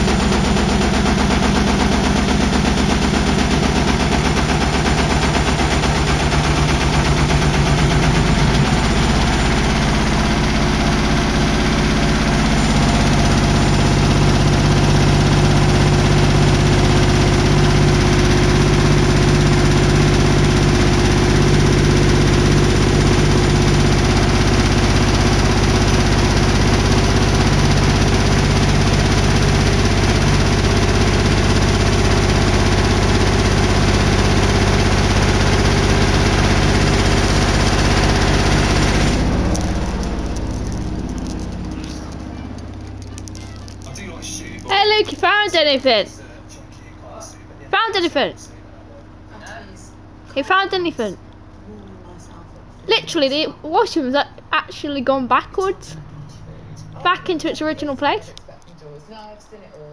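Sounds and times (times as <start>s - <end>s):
washing machine spinning: 0.0s - 58.3s.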